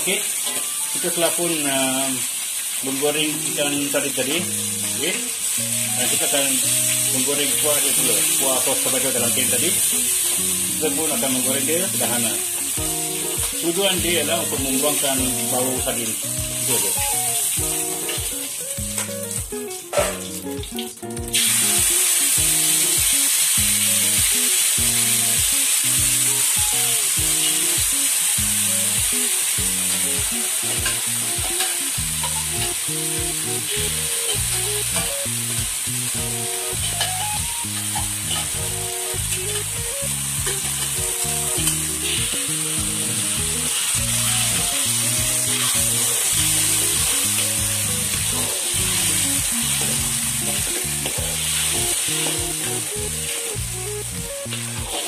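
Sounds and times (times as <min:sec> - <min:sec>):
sauce sizzling in hot oil: 0:00.0 - 0:55.0.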